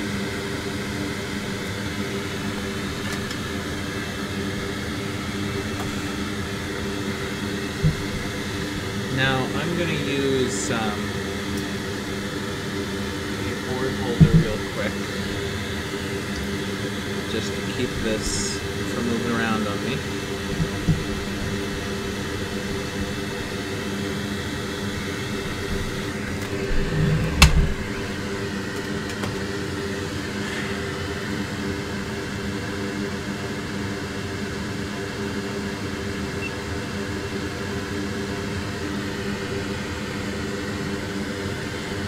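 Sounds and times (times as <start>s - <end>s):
fans whirring: 0.0s - 42.0s.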